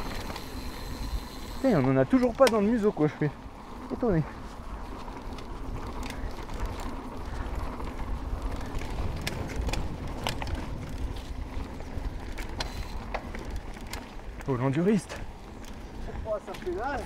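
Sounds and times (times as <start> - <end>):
sharp clicks and rattles: 0.0 - 3.1, 4.9 - 17.0
bike tyres rumbling on dirt: 0.0 - 17.0.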